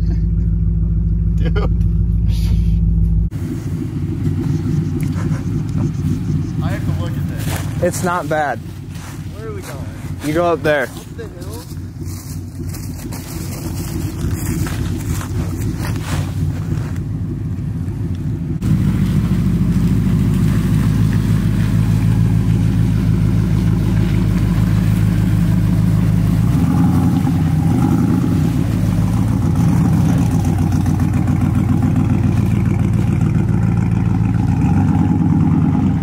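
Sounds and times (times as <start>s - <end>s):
pickup truck engine running: 0.0s - 36.0s.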